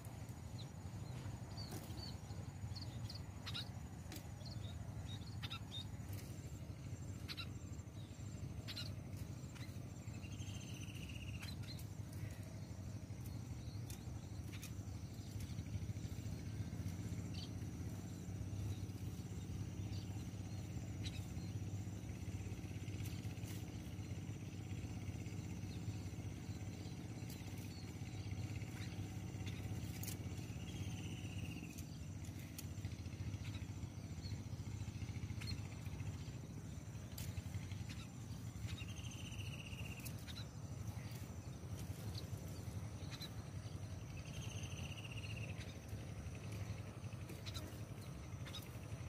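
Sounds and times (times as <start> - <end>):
faint bird chirps: 0.0 - 49.0
faint insect whine: 0.0 - 49.0
low outdoor rumble: 0.0 - 49.0.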